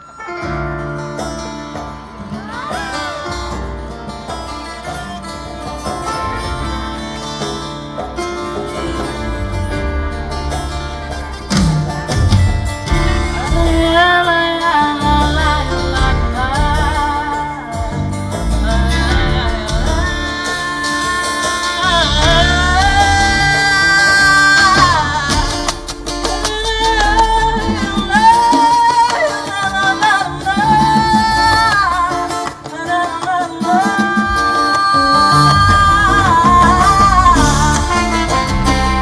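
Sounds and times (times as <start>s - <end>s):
live guitar-led music: 0.0s - 39.0s.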